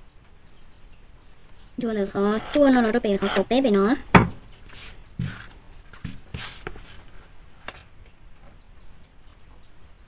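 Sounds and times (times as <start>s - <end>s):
faint high-pitched whine: 0.0s - 10.0s.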